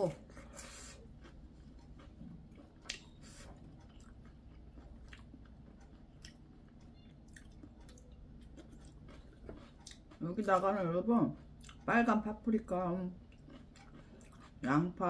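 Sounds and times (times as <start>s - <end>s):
person chewing: 0.2s - 10.7s, 11.3s - 11.9s, 13.2s - 14.9s.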